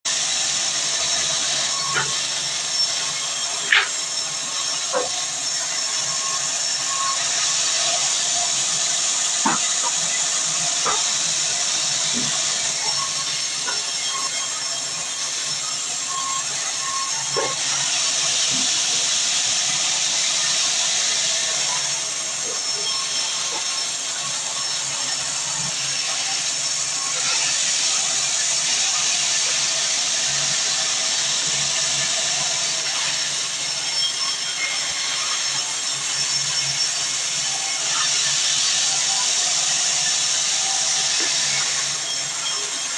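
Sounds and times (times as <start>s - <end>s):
saw cutting through log: 0.1s - 42.9s.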